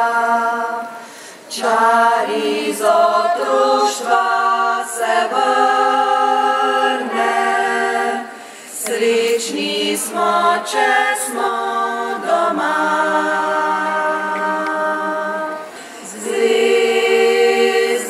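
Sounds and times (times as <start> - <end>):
women's choir singing a cappella: 0.0 - 18.0.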